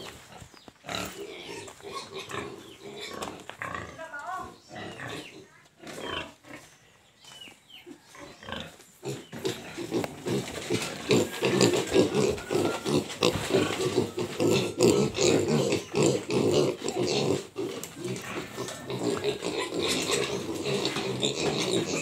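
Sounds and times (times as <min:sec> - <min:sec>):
piglets grunting and squealing: 0:00.0 - 0:06.7, 0:07.8 - 0:22.0.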